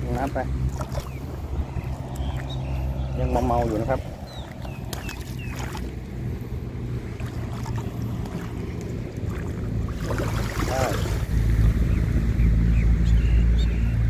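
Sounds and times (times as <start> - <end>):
boat engine rumble: 0.0 - 14.0
wind on microphone: 0.0 - 14.0.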